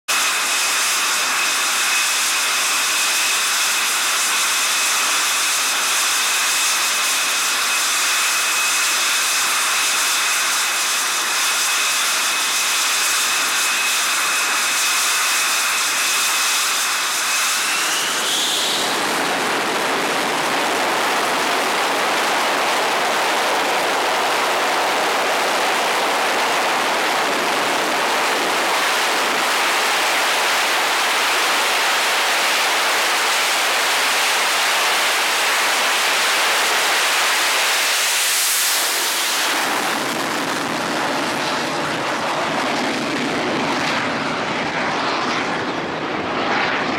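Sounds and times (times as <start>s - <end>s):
jet engine roar: 0.1s - 46.9s
jet engines whining: 0.1s - 46.9s.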